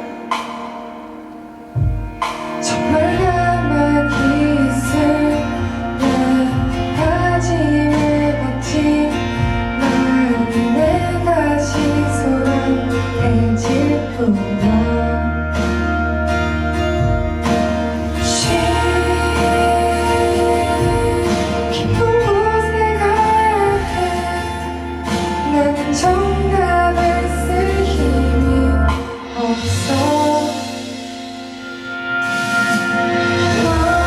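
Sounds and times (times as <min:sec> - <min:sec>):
live pop band playing: 0:00.0 - 0:34.0
woman singing: 0:02.6 - 0:15.9, 0:18.2 - 0:31.2, 0:32.6 - 0:34.0.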